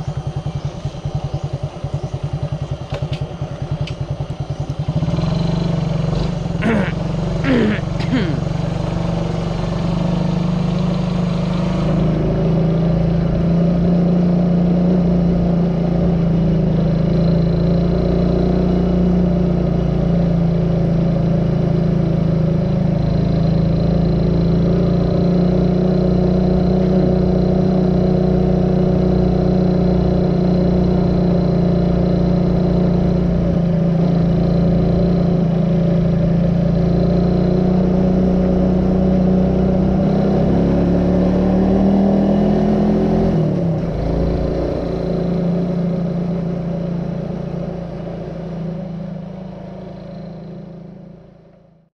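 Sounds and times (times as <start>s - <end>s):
motorbike engine running: 0.0s - 42.5s.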